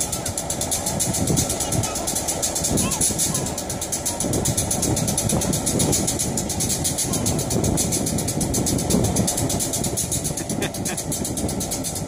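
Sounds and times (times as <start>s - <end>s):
locomotive diesel engine pulsing: 0.0s - 12.0s.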